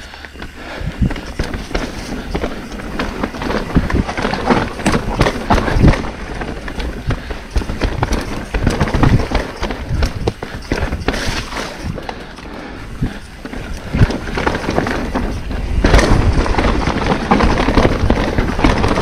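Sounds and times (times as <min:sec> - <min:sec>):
bike clattering and rattling: 0:00.0 - 0:19.0
bike tyres rumbling on dirt: 0:00.0 - 0:19.0.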